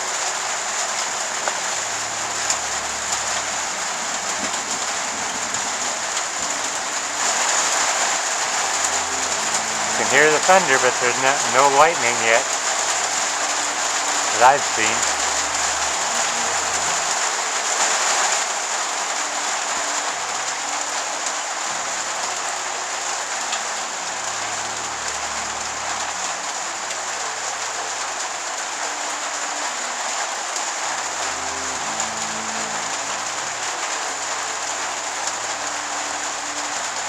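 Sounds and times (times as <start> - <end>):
rain falling on roof: 0.0 - 37.0.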